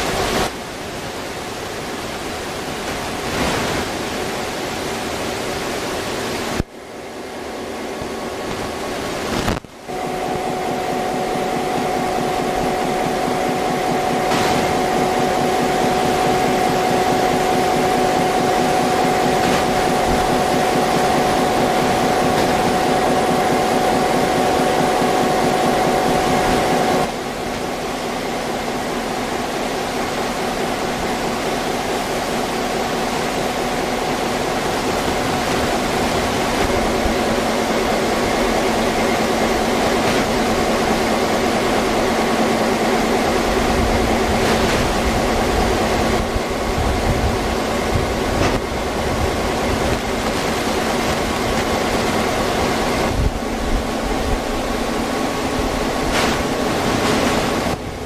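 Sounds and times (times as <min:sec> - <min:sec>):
humming whine: 0:00.0 - 0:58.0
machine running: 0:00.0 - 0:58.0.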